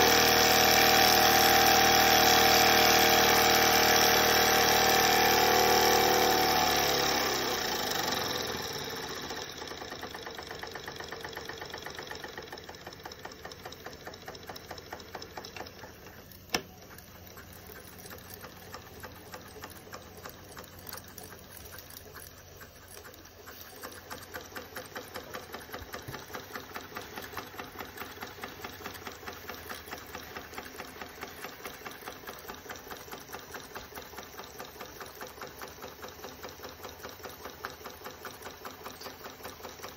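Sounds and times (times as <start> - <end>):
toy steam engine running: 0.0 - 39.9.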